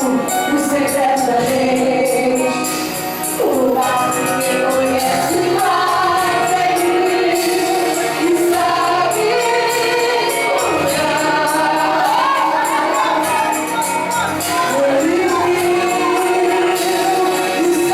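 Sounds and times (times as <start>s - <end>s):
sustained backing music: 0.0s - 17.9s
voices singing gospel: 0.0s - 17.9s.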